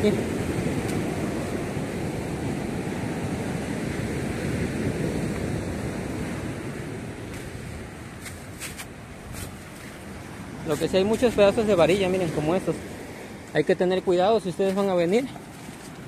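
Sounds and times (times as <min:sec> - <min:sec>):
ocean surf on rocky beach: 0:00.0 - 0:16.0.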